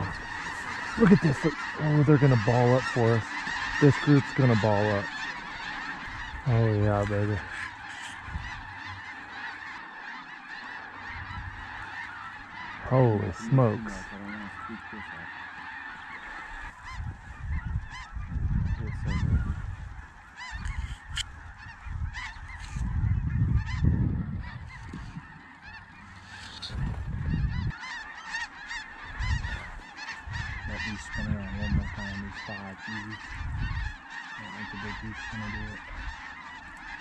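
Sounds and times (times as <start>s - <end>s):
geese honking: 0.0s - 37.0s.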